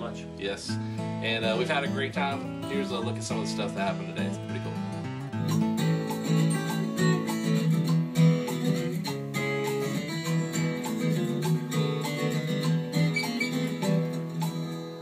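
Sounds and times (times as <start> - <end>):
acoustic guitar country music: 0.0 - 15.0.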